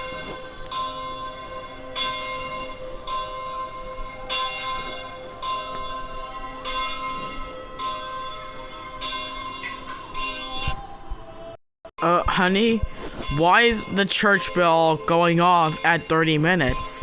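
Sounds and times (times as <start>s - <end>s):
church bell tolling: 0.0s - 11.0s, 12.0s - 17.0s.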